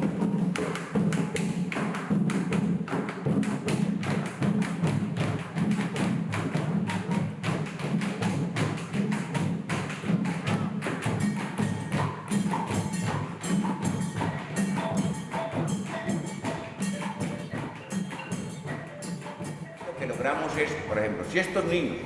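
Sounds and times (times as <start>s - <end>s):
fast dense drumming: 0.0s - 22.0s
knocking and shaking percussion: 0.0s - 22.0s.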